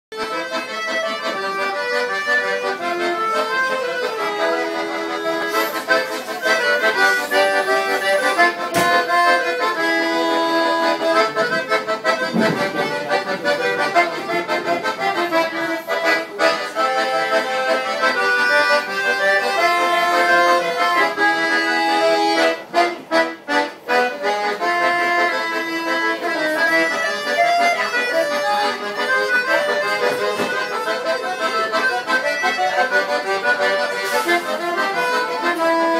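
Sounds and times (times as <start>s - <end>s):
accordion playing: 0.1s - 35.9s.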